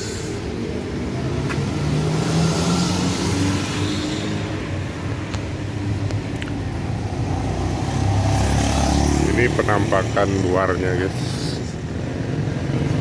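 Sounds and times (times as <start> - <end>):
car engine running nearby: 0.0 - 13.0
street traffic: 0.0 - 13.0.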